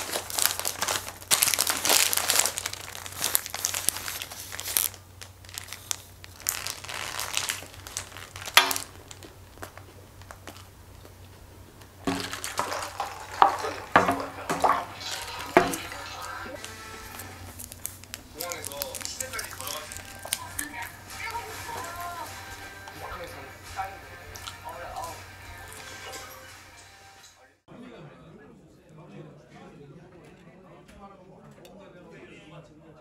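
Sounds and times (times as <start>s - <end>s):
paper wrapper crinkling: 0.0s - 26.6s.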